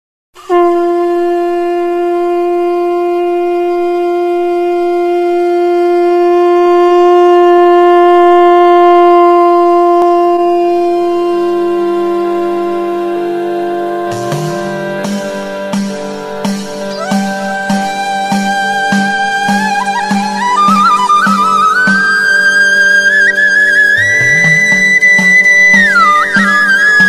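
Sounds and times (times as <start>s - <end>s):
horn-like wind instrument note: 0.4s - 27.0s
lower accompanying tone: 0.4s - 27.0s.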